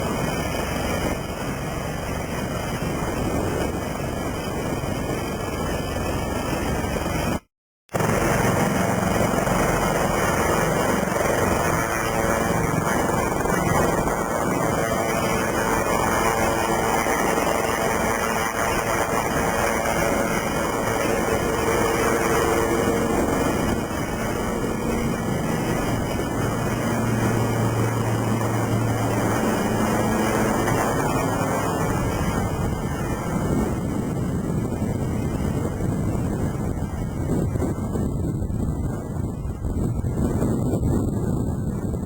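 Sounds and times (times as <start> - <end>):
helicopter turbine and rotor: 0.0 - 42.0
low hum: 8.0 - 42.0.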